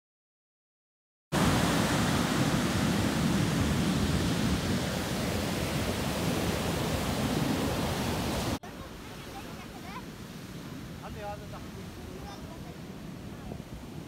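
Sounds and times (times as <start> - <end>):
surf waves breaking: 1.4 - 14.0.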